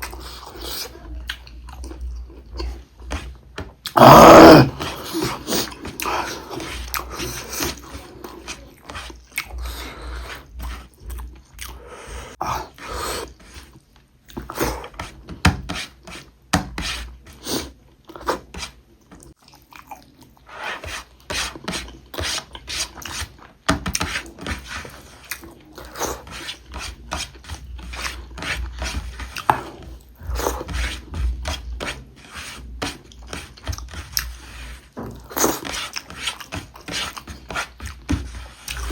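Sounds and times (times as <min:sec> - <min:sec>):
person chewing food: 0:00.0 - 0:15.2, 0:19.2 - 0:23.6, 0:24.2 - 0:38.9.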